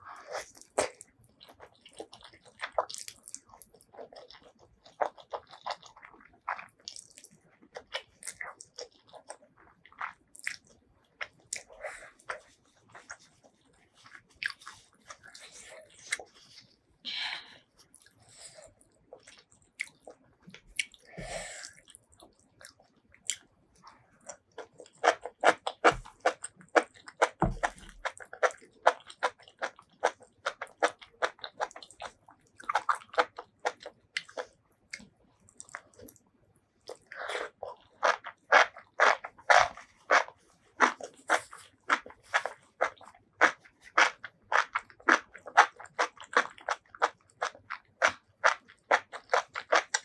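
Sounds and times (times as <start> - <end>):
crunchy wet chewing: 0.1 - 16.8, 17.8 - 50.0.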